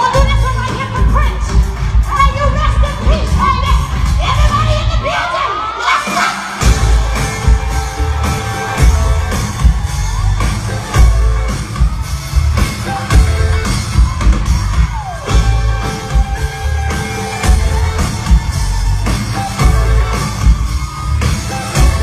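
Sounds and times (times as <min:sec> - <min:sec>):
party music with heavy bass: 0:00.0 - 0:22.0
voices shouting and whooping: 0:00.0 - 0:22.0.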